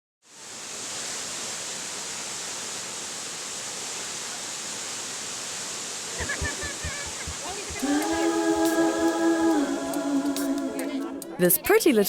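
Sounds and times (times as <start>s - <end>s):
waterfall rushing: 0.3s - 11.5s.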